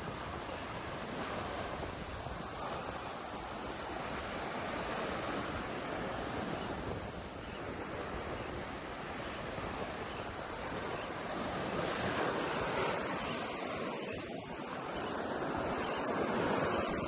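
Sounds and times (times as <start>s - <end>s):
ocean surf on a beach: 0.0s - 17.0s
wind buffeting microphone: 0.0s - 17.0s.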